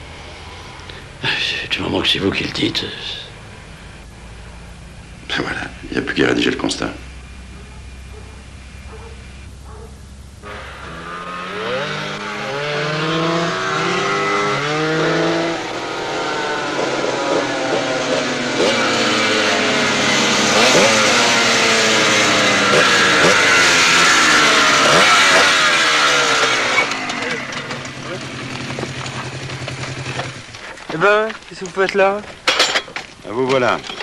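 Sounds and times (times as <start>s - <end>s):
motorcycle engines revving: 0.0s - 32.8s.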